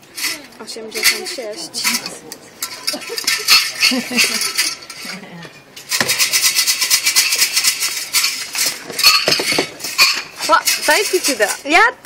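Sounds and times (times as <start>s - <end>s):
sticks rattling in metal boxes: 0.0s - 5.2s, 5.8s - 11.9s.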